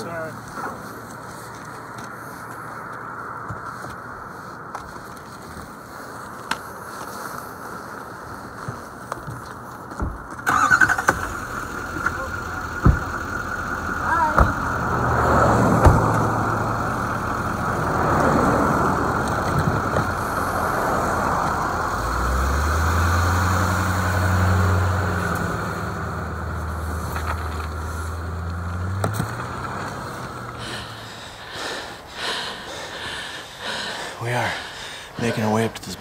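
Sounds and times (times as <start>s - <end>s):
road and wind noise: 0.0s - 36.0s
vehicle engine humming: 0.0s - 36.0s.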